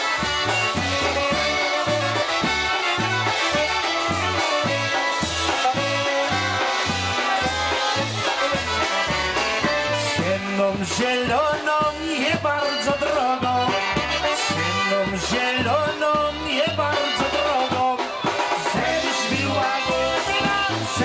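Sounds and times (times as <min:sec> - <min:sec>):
accordion: 0:00.0 - 0:21.0
bass beat: 0:00.0 - 0:21.0
concertina: 0:00.0 - 0:21.0
drums: 0:00.0 - 0:21.0
saxophone: 0:00.0 - 0:21.0.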